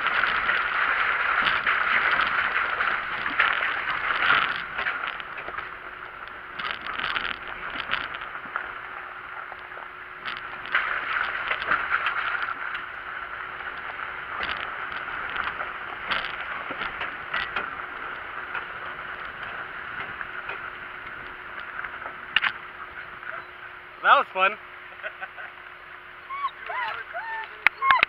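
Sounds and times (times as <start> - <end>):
road and wind noise: 0.0 - 28.0.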